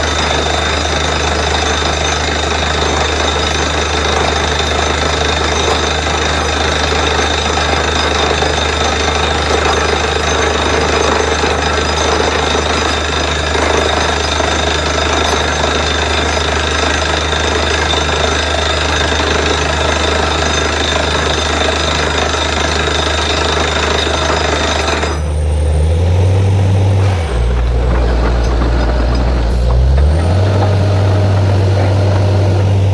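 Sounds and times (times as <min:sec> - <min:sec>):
engine drone: 0:00.0 - 0:32.9
loud drilling noise: 0:00.0 - 0:32.9.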